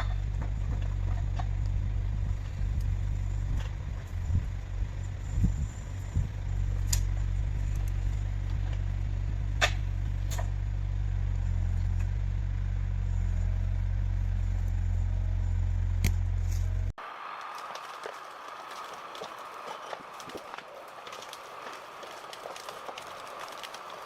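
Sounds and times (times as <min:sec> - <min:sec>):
heavy machine engine droning: 0:00.0 - 0:24.0.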